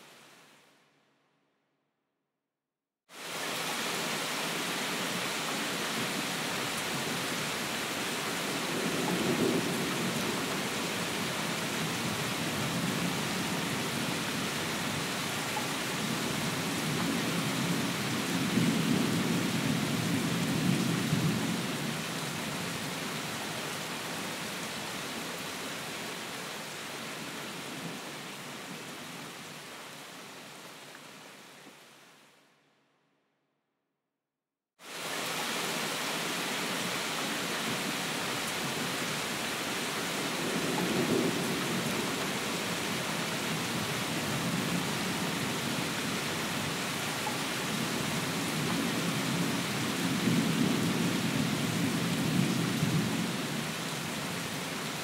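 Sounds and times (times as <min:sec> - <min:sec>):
steady rain: 0:00.0 - 0:00.8, 0:03.1 - 0:32.6, 0:34.8 - 0:55.0.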